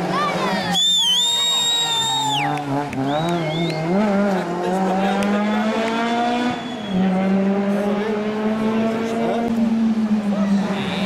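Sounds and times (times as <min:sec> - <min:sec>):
rally car engine revving: 0:01.4 - 0:11.0.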